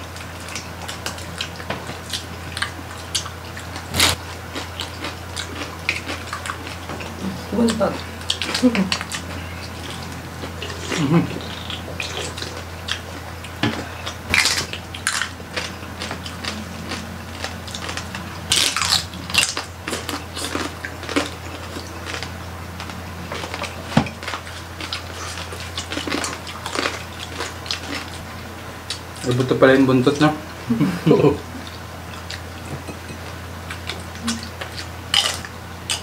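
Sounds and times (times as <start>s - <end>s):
wet chewing and smacking: 0.0s - 29.5s, 31.6s - 36.0s
crackling pork skin: 0.0s - 29.6s, 33.6s - 36.0s
steady low hum: 0.0s - 36.0s.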